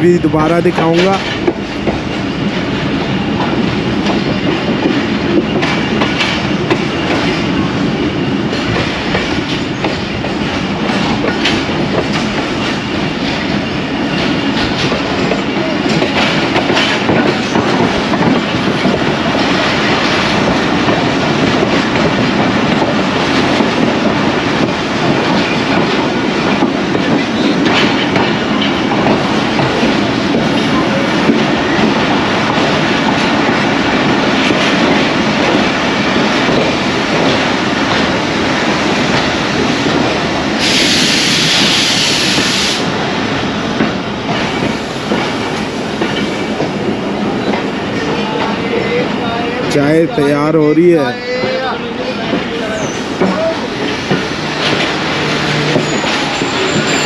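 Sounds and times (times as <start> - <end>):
rail joints clicking: 0.0 - 57.0
train wheels rumbling: 0.0 - 57.0.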